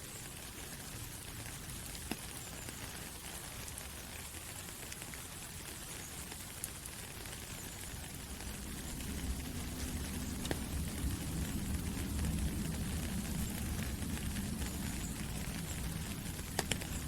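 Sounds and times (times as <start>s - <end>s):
soft rain in forest: 0.0s - 17.0s.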